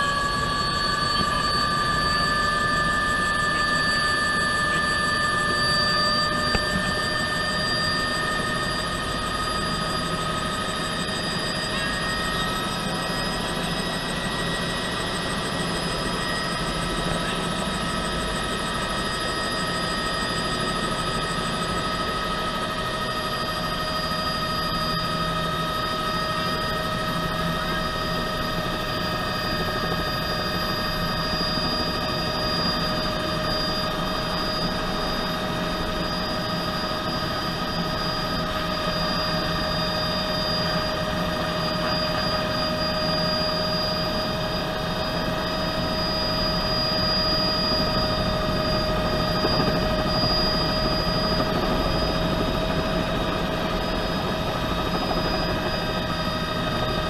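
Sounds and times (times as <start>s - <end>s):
helicopter rotor rumble: 0.0s - 57.0s
helicopter turbine whine: 0.0s - 57.0s.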